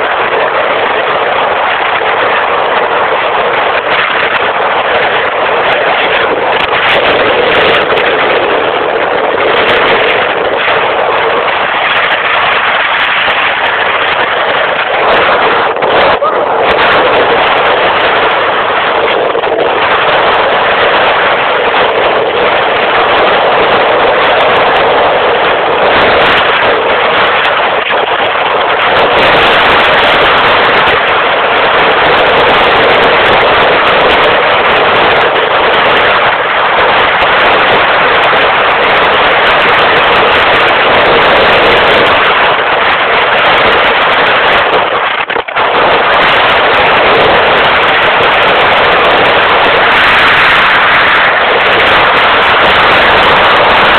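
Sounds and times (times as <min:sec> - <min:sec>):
motorcycle engine at high speed: 0:00.0 - 0:53.9
wind rushing on microphone: 0:00.0 - 0:53.9.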